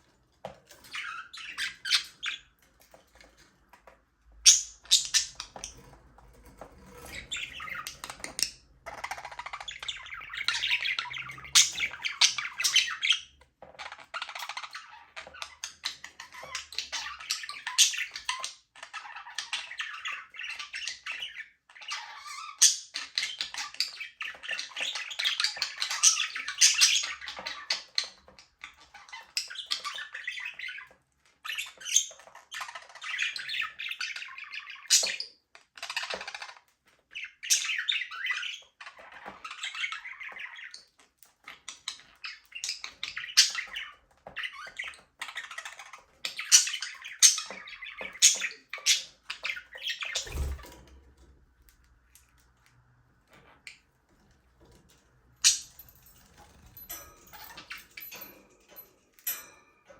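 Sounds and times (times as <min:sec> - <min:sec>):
budgerigars chirping and warbling: 0:00.0 - 0:59.9.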